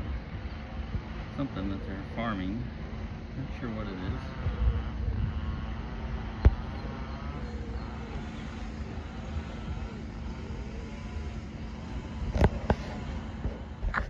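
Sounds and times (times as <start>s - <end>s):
faint constant hum: 0.0s - 14.0s
outdoor background rumble: 0.0s - 14.0s.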